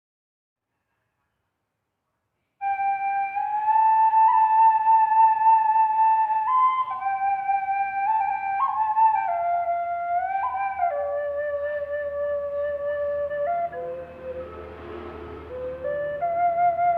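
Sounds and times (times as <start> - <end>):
duct flute held notes: 2.6 - 16.9.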